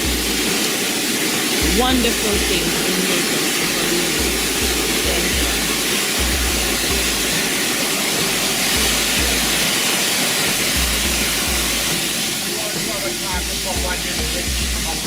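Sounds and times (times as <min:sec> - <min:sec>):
low bass music: 0:00.0 - 0:00.7, 0:01.6 - 0:02.9, 0:03.7 - 0:15.0
waterfall rushing: 0:00.0 - 0:15.0.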